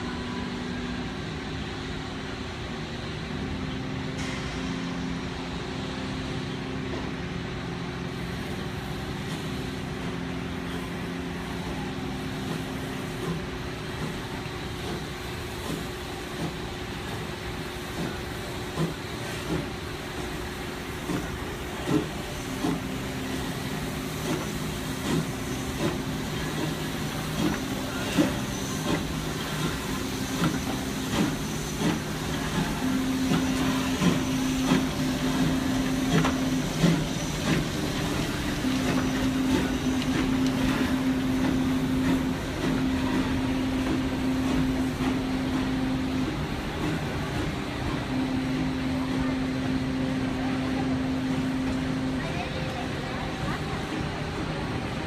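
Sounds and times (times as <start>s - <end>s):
steam locomotive chuffing beats: 4.2s - 52.2s.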